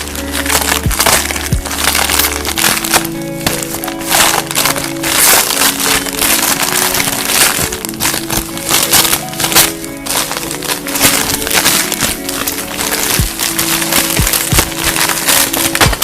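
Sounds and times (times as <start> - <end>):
background music with synth and bass: 0.0 - 16.0.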